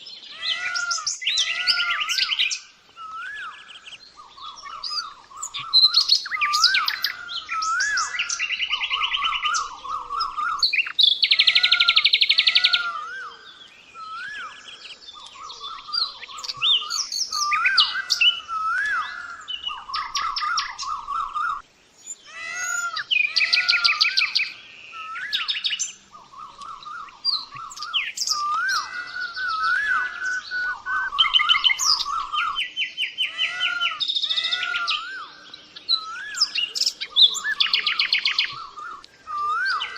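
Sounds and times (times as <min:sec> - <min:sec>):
songbirds singing in chorus: 0:00.0 - 0:39.9.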